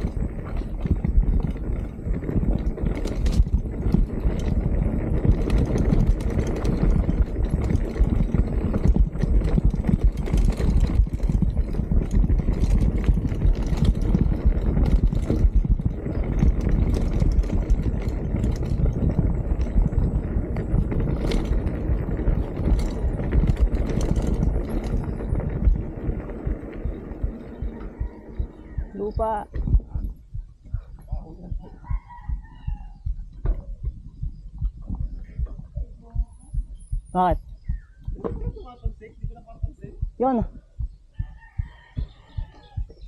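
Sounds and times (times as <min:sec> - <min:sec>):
bike knocking and rattling: 0:00.0 - 0:43.0
bike rumbling over rough trail: 0:00.0 - 0:43.0.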